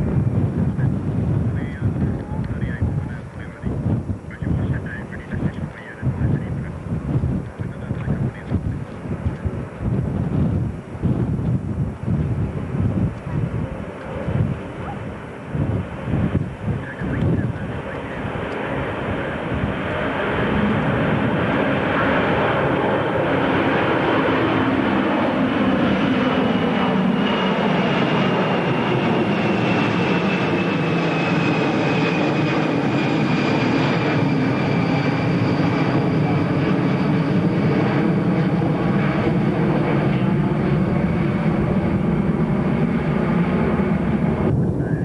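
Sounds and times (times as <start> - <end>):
jet airliner engines passing: 0.0 - 45.0.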